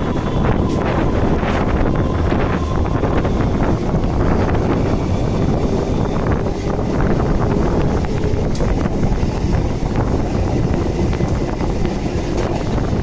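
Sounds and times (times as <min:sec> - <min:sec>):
train rumble: 0:00.0 - 0:13.0
wind buffeting microphone: 0:00.0 - 0:13.0.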